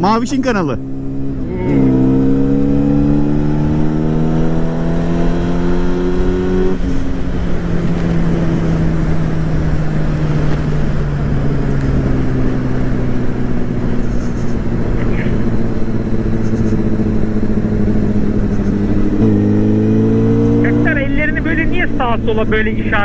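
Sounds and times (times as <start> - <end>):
motorcycle engine revving: 0.0 - 23.0
wind rushing over microphone: 0.8 - 21.8.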